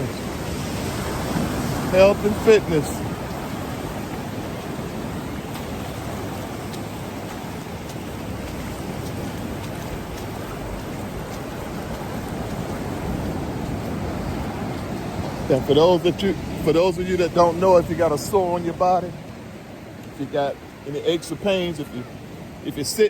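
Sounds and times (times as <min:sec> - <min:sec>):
ocean surf washing onto beach: 0:00.0 - 0:23.0.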